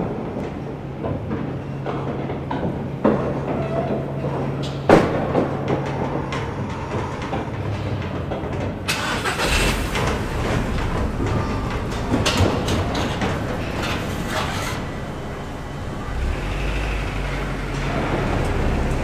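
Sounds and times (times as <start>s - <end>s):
elevator cage rattling and clanking: 0.0s - 19.0s
low machinery hum: 0.0s - 19.0s.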